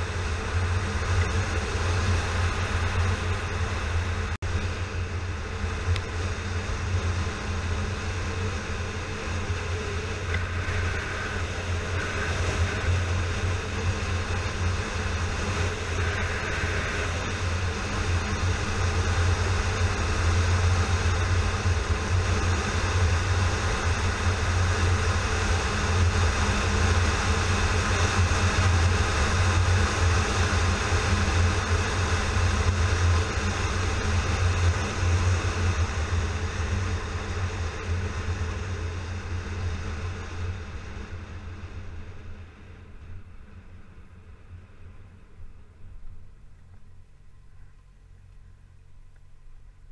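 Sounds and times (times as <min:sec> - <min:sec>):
motorcycle engine cruising: 0:00.0 - 0:49.9
wind and road noise: 0:00.0 - 0:49.9.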